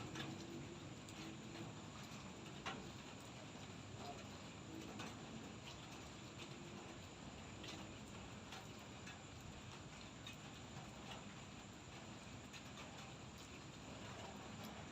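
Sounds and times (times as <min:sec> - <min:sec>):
light drizzle hissing: 0:00.0 - 0:14.9
raindrops ticking: 0:00.0 - 0:14.9.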